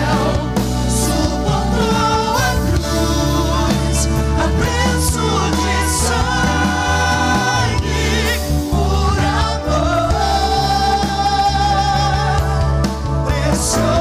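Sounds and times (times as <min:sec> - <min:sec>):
band accompaniment: 0:00.0 - 0:14.0
gospel singing voices: 0:00.0 - 0:14.0.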